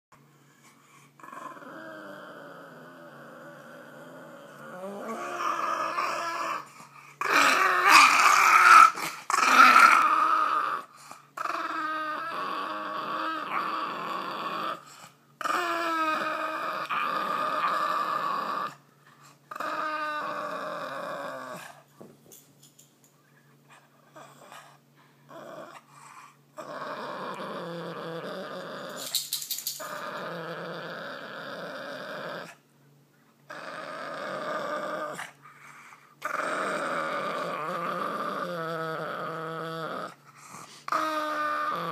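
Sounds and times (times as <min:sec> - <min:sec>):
dog growling: 0:00.6 - 0:21.9, 0:23.7 - 0:32.6, 0:33.5 - 0:41.9.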